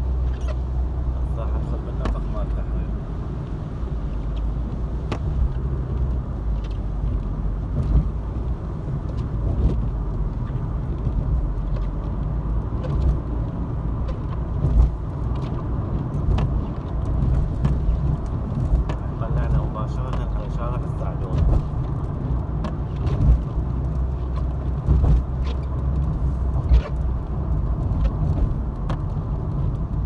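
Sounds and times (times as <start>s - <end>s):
car engine and road noise: 0.0s - 30.0s
rain on car: 0.0s - 30.0s.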